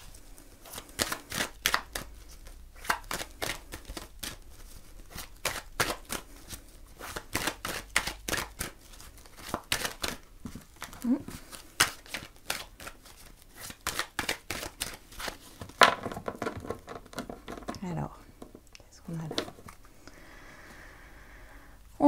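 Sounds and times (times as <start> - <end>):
cards being shuffled: 0.0 - 19.9.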